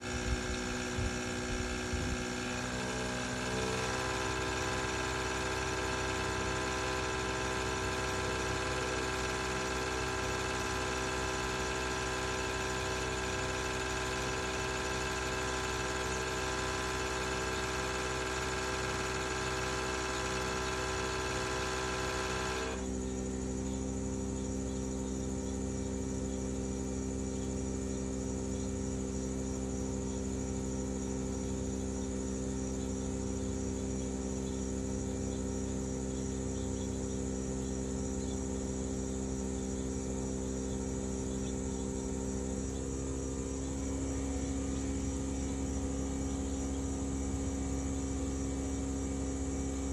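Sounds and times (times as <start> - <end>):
heat pump grinding buzz: 0.0 - 49.9.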